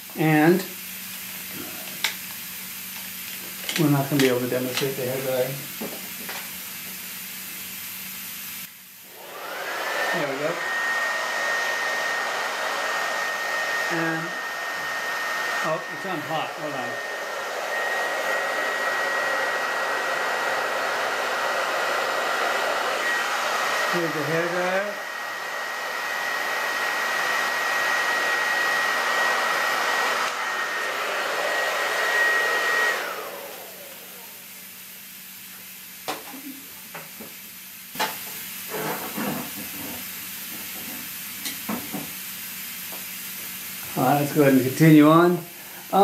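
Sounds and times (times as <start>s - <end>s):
hair dryer blowing air: 0.0s - 46.0s.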